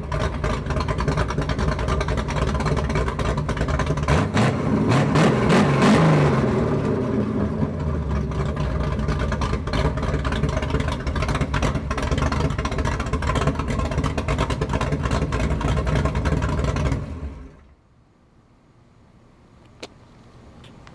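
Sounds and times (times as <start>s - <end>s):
engine running through open exhaust: 0.0s - 17.8s.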